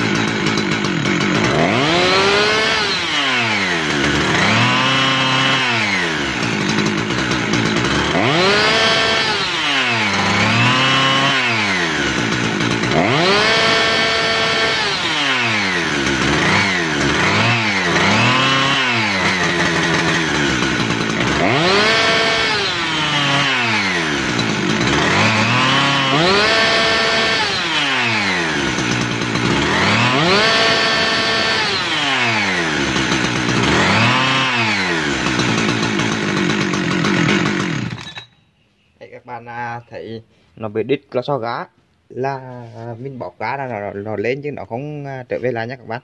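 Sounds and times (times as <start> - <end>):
chainsaw engine revving: 0.0 - 38.3.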